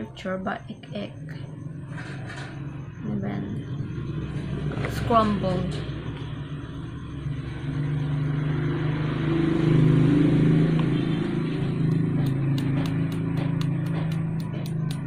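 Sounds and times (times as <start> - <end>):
vehicle engine running: 2.6 - 15.0.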